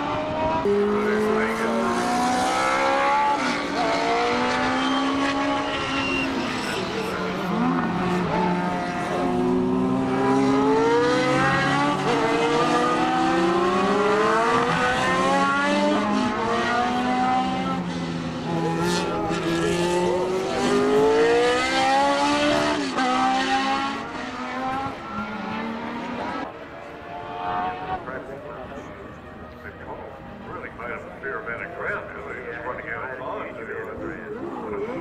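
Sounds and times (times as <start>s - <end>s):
race car engines accelerating: 0.0s - 35.0s.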